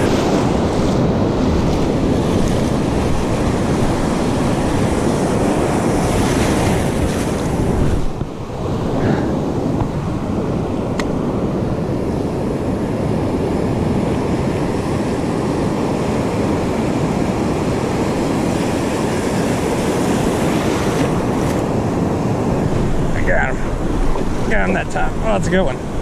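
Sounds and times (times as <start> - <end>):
breaking surf: 0.0 - 26.0
wind buffeting microphone: 0.0 - 26.0.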